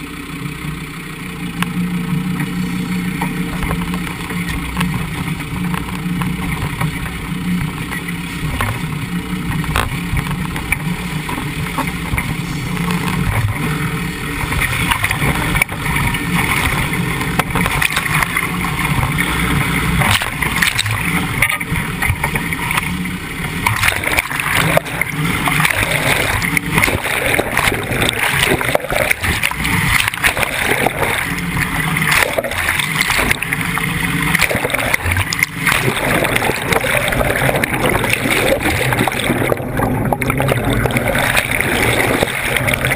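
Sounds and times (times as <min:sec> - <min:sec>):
vehicle engine running: 0:00.0 - 0:42.9
water splashing and gurgling: 0:00.0 - 0:42.9.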